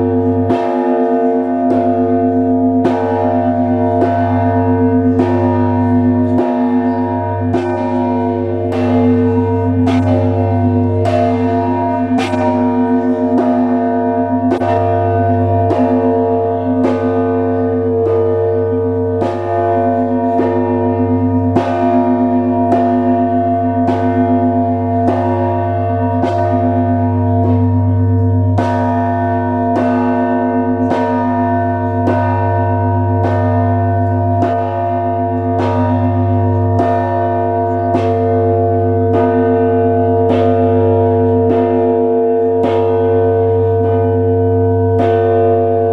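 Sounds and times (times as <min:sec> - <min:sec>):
bells struck: 0:00.0 - 0:45.9
large bell ringing hum: 0:00.0 - 0:45.9.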